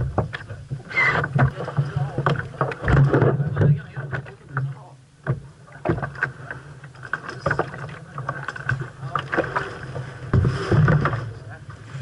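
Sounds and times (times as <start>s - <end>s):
water splashing against boat hull: 0.0s - 12.0s.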